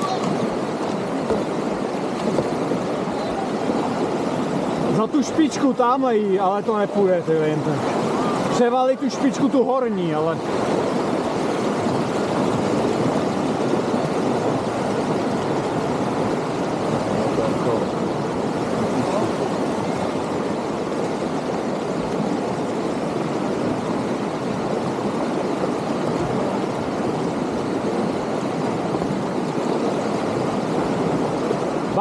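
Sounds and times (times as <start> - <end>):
whitewater rapids rushing: 0.0 - 32.0.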